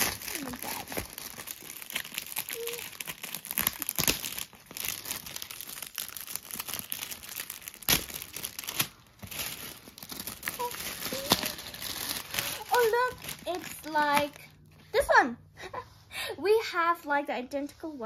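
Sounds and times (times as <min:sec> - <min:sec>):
foil gift wrap crinkling: 0:00.0 - 0:14.6.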